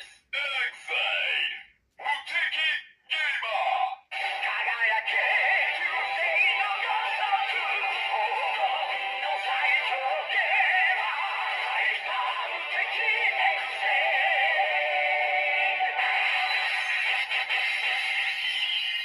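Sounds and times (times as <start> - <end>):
toy electronic music with sung melody: 0.0 - 19.0.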